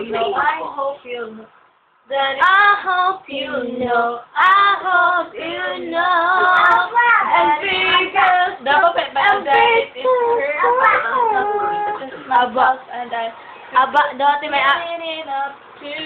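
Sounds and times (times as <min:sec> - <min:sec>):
high voice singing love song: 0:00.0 - 0:16.0.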